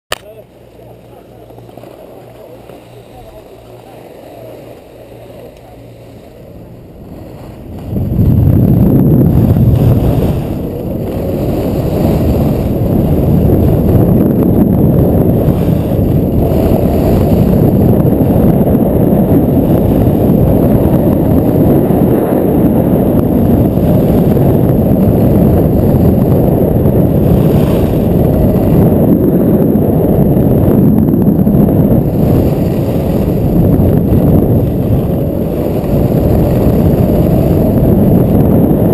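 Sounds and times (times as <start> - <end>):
wind buffeting microphone: 0.2 - 38.9.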